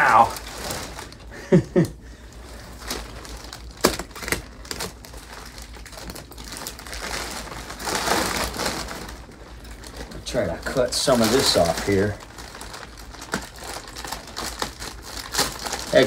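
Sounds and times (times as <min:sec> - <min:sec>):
plastic crackles: 0:00.0 - 0:16.0
plastic wrapping crinkling: 0:00.0 - 0:16.0.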